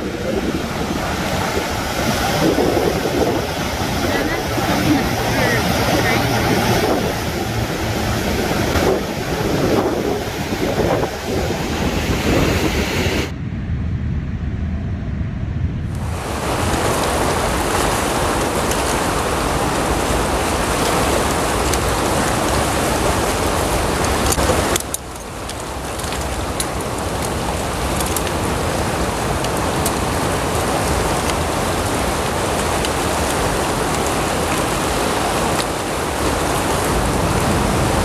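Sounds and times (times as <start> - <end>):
river water rushing over weir: 0.0 - 13.3, 16.0 - 38.0.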